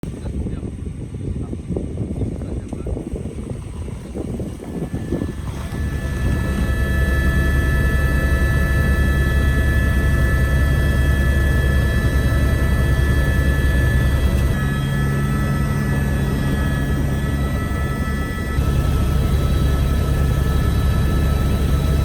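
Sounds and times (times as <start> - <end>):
helicopter deep rumble: 0.0 - 22.0
high whining tones: 3.1 - 22.0.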